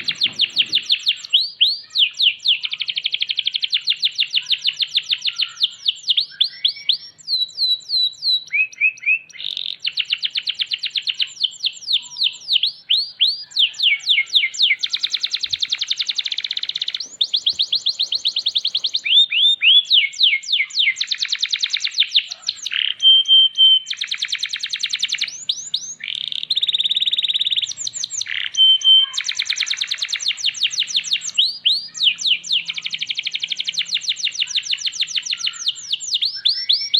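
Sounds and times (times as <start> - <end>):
canary singing trills: 0.0 - 36.9.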